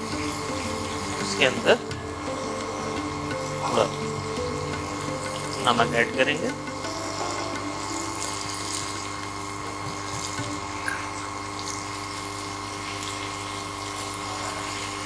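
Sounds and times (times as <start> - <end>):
steady hum: 0.0 - 15.0
tomatoes sizzling in frying pan: 0.0 - 15.0.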